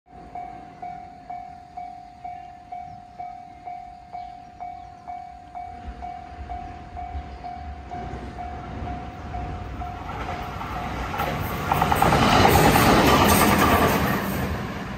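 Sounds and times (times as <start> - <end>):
approaching train rumble: 0.1 - 14.9.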